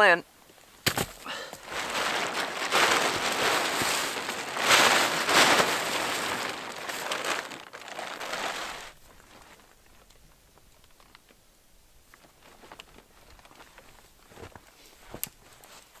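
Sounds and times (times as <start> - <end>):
tarp rustling and crinkling: 0.8 - 11.4, 12.0 - 16.0.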